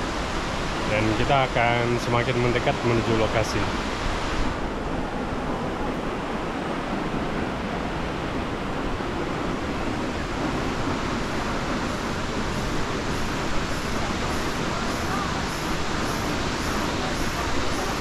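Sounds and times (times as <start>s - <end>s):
waterfall roar: 0.0s - 18.0s.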